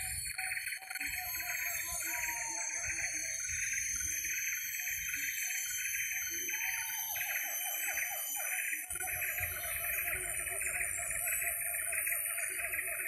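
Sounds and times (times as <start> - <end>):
high buzzing insect chorus: 0.6 - 13.0.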